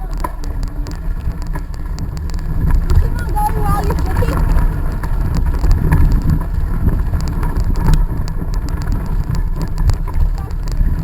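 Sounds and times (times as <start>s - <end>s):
bicycle clicks and rattles: 0.0s - 11.0s
wind buffeting microphone: 0.0s - 11.0s.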